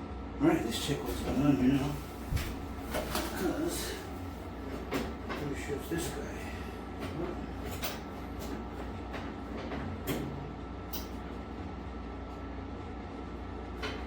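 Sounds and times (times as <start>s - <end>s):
clothes dryer rumbling: 0.0s - 14.0s.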